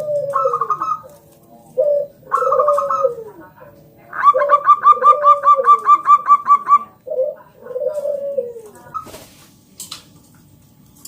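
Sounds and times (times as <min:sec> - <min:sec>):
dove cooing: 0:00.0 - 0:09.2.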